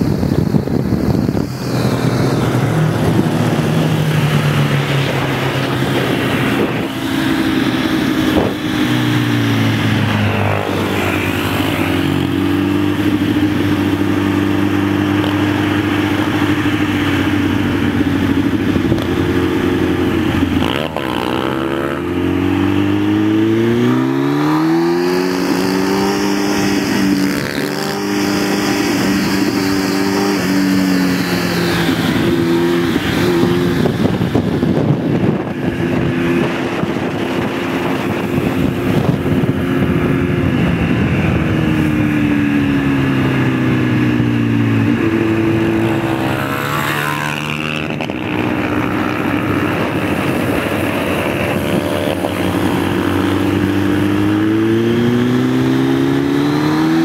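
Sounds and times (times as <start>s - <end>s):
motorcycle engine accelerating: 0.0s - 57.0s
wind rushing over microphone: 0.0s - 57.0s.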